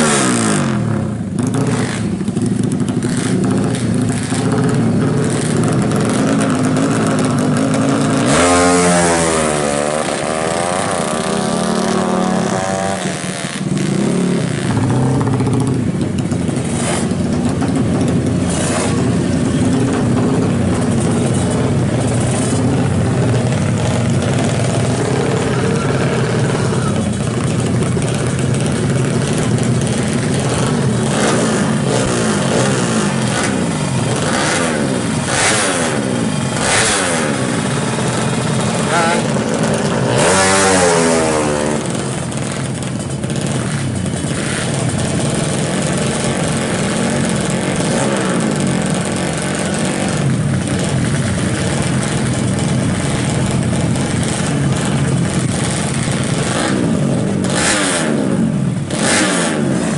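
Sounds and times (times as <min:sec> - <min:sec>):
motorcycle accelerating through gears: 0:00.0 - 0:59.9
motorcycle engines revving: 0:00.0 - 0:59.9.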